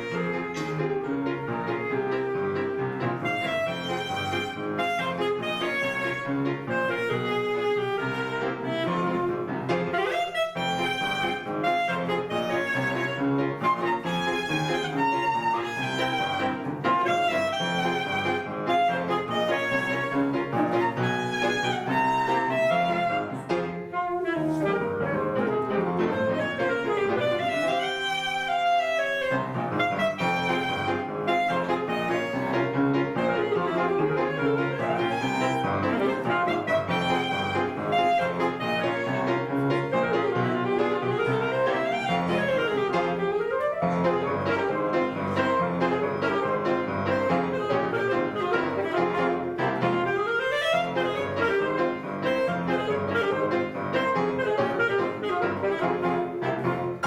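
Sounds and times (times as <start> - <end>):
orchestra playing: 0.0 - 57.0.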